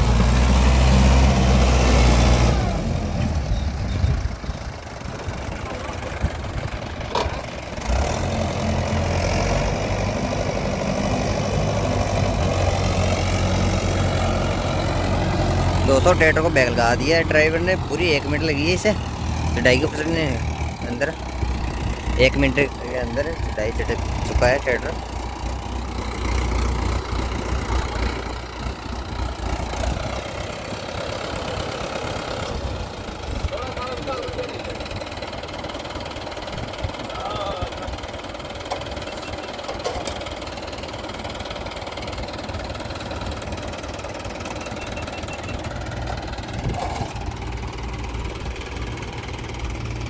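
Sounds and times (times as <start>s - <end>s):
tractor diesel engine under load: 0.0s - 50.0s.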